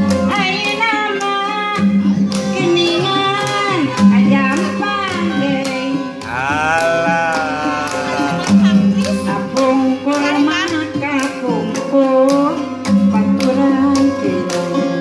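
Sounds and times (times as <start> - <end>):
hands clapping a beat: 0.0 - 15.0
woman singing into a microphone: 0.0 - 15.0.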